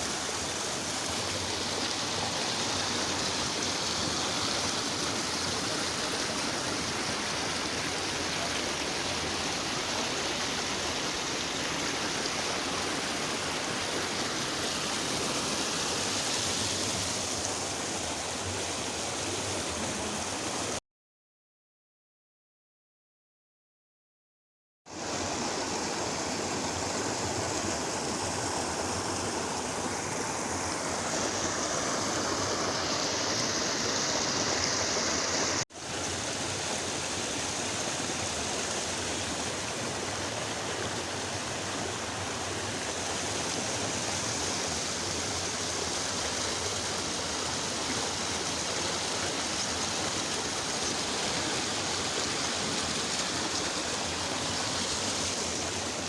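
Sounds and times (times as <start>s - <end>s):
water rushing: 0.0s - 20.8s, 24.9s - 56.0s.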